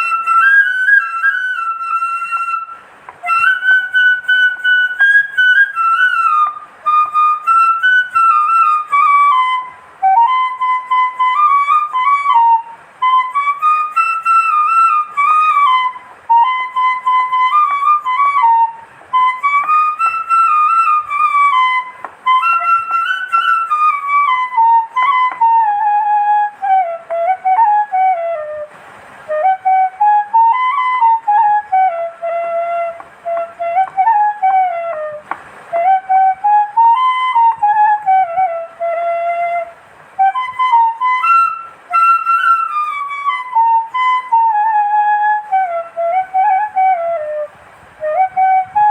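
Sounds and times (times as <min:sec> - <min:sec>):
solo flute slow melody: 0:00.0 - 0:48.9.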